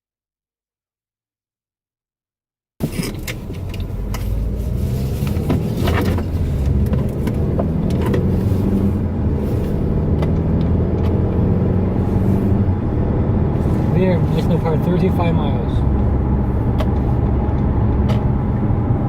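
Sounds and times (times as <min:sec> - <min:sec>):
car engine and road rumble: 0:02.8 - 0:19.0.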